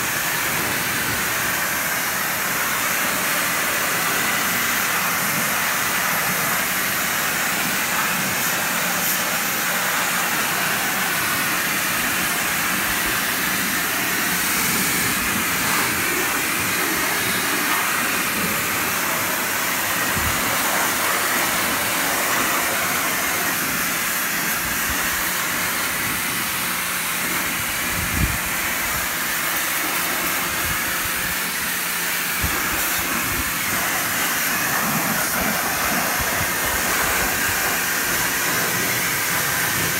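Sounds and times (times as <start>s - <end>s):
pressure washer spray hissing: 0.0s - 39.9s.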